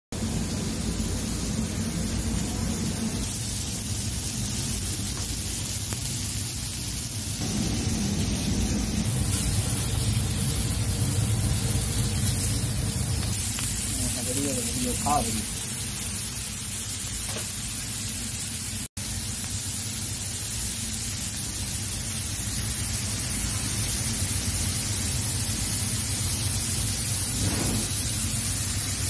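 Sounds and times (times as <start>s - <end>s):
meat sizzling on a griddle: 0.2s - 29.0s.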